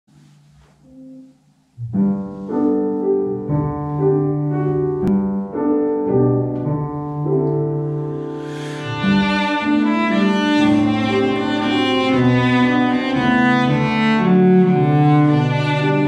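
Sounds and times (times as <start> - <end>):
grand piano slow chords: 0.2 - 16.0.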